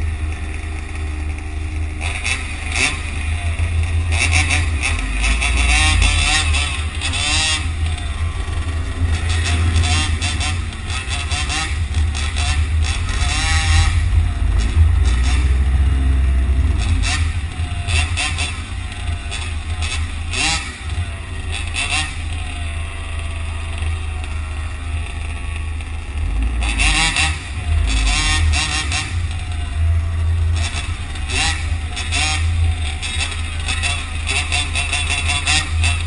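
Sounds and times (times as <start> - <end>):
motors revving: 0.0 - 36.0
road traffic rumble: 0.0 - 36.0.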